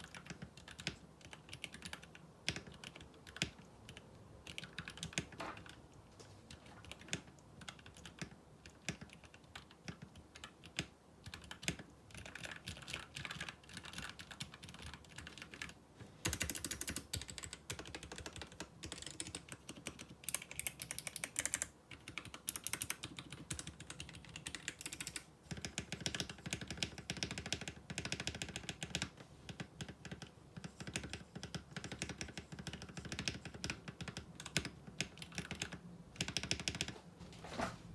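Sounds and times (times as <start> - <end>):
fast typing on mechanical keyboard: 0.0 - 5.8, 6.5 - 36.9.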